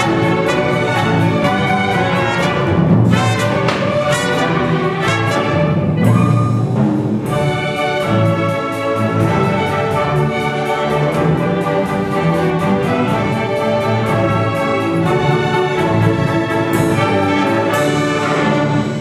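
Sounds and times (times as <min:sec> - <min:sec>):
orchestra playing classical music: 0:00.0 - 0:19.0.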